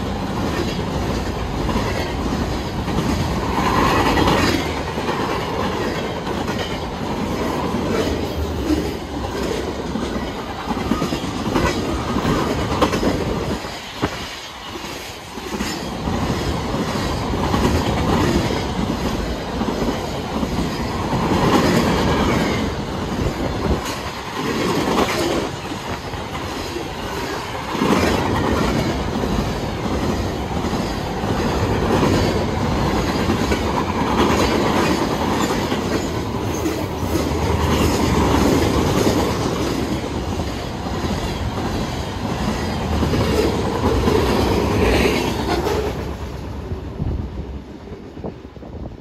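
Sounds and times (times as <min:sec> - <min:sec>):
wheels clicking over rail joints: 0:00.0 - 0:46.4
freight train cars rolling past: 0:00.0 - 0:49.0.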